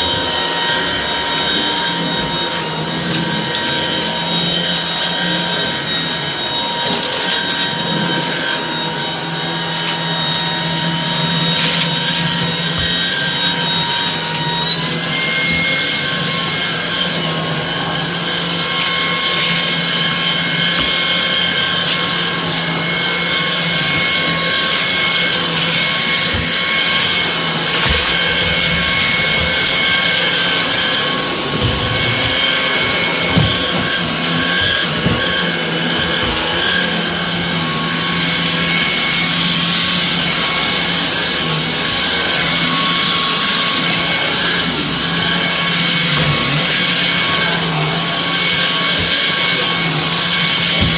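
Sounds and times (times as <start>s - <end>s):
cordless vacuum running: 0.0s - 50.9s.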